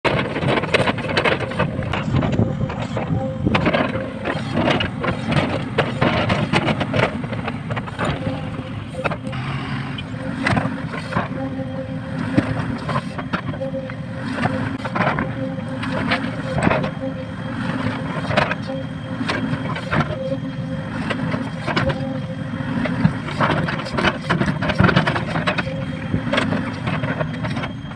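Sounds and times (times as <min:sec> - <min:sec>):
excavator diesel engine running: 0:00.1 - 0:27.9.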